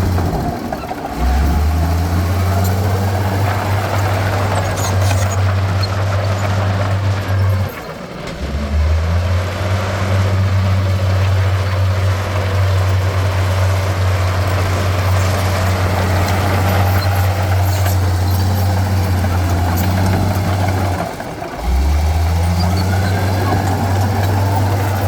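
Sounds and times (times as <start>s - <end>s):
heavy diesel engine droning: 0.0s - 25.0s.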